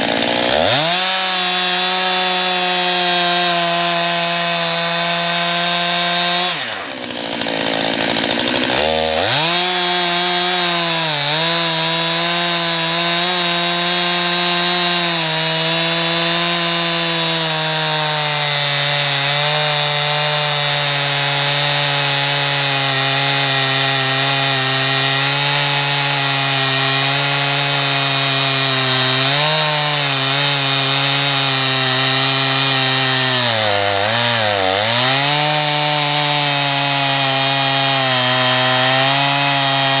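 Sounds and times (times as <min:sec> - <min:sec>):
chainsaw ripping a log: 0:00.0 - 0:40.0.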